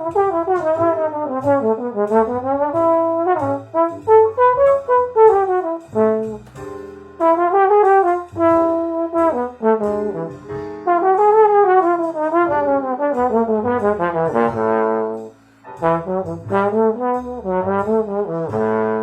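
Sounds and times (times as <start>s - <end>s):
sustained low bass: 0.0s - 19.0s
trombone jazz waltz melody: 0.0s - 19.0s.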